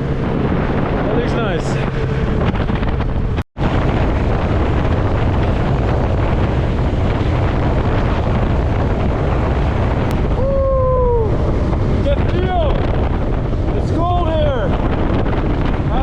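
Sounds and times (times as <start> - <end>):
road and engine noise: 0.0 - 16.0
wind buffeting microphone: 0.0 - 16.0.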